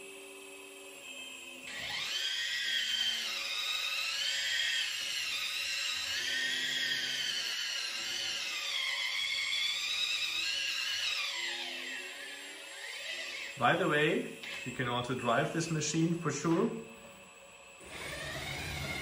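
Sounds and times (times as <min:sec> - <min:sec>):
model excavator whining: 0:00.0 - 0:19.0.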